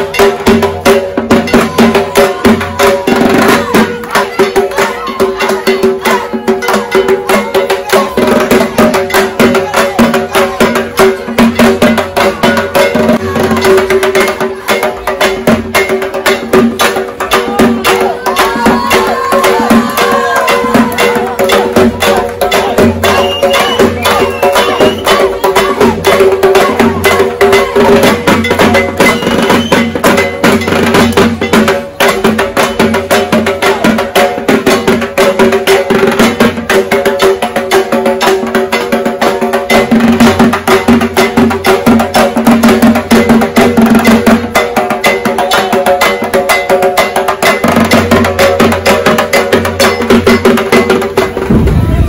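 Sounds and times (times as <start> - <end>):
drums beaten with sticks: 0.0 - 52.0.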